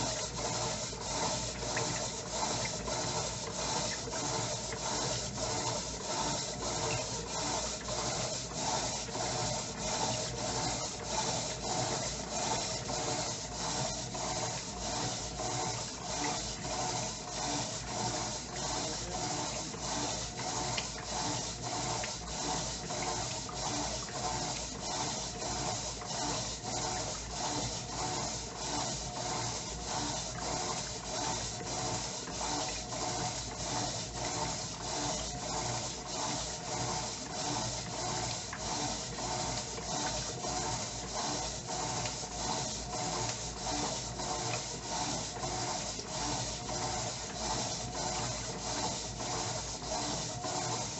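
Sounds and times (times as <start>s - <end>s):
washing machine agitating: 0.0s - 50.9s.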